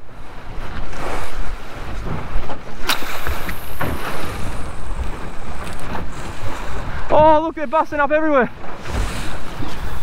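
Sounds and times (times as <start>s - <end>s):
sea and boat noise: 0.0s - 10.0s
wind buffeting microphone: 0.0s - 10.0s.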